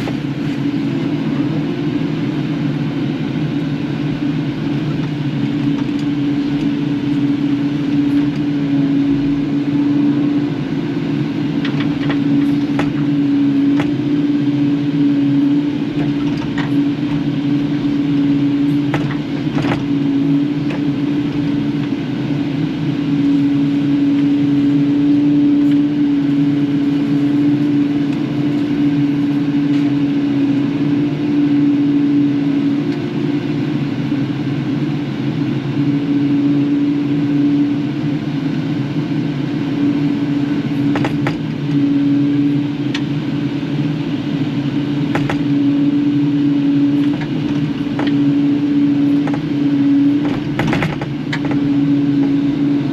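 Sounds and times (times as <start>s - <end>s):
excavator diesel engine running: 0.0s - 34.8s, 39.3s - 52.9s.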